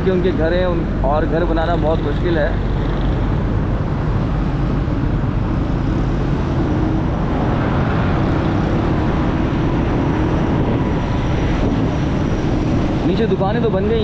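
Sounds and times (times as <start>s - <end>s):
traffic: 0.0s - 14.0s
wind and road noise: 0.0s - 14.0s.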